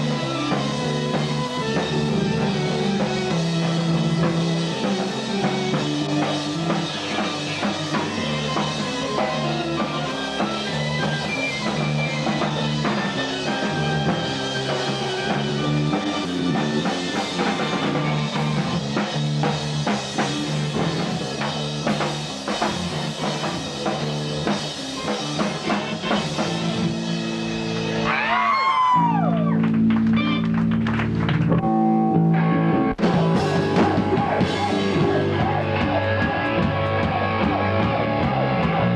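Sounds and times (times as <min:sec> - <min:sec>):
rock music with drums and guitar: 0:00.0 - 0:38.9.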